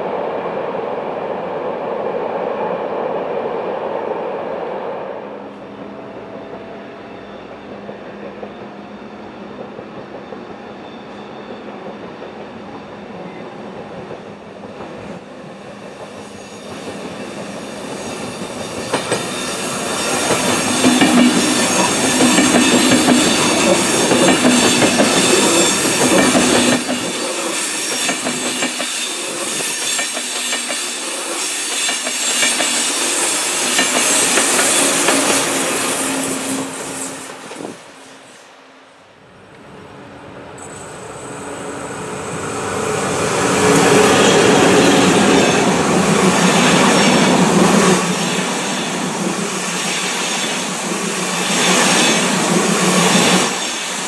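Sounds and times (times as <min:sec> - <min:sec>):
passenger train passing: 0:00.0 - 0:54.0
train rumbling across viaduct: 0:00.0 - 0:54.0.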